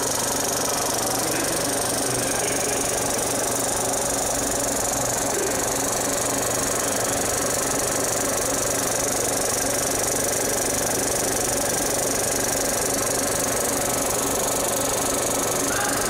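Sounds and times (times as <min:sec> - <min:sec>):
film projector clatter: 0:00.0 - 0:16.0.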